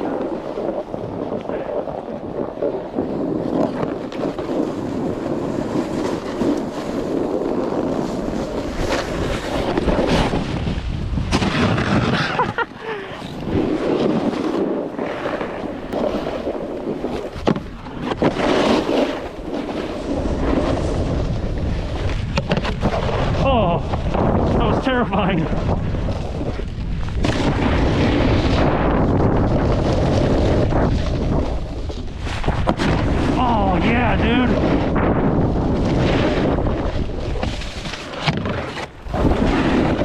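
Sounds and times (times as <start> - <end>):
snowboard scraping over snow: 0.0 - 40.0
wind rushing over microphone: 0.0 - 40.0.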